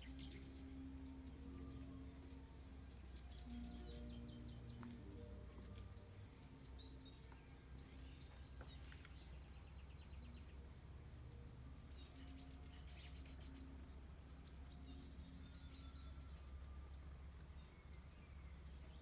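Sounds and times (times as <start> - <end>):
low steady hum: 0.0 - 19.0
songbirds chirping: 0.0 - 19.0.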